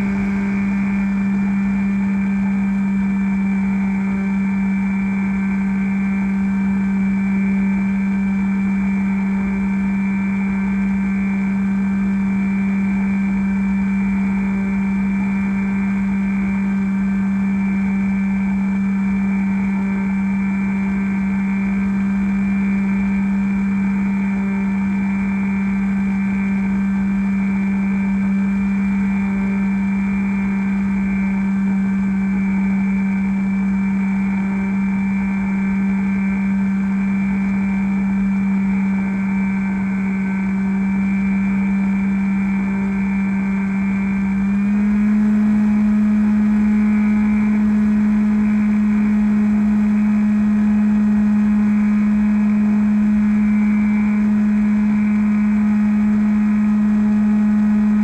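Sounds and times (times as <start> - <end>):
electric motor and propeller drone: 0.0 - 58.0.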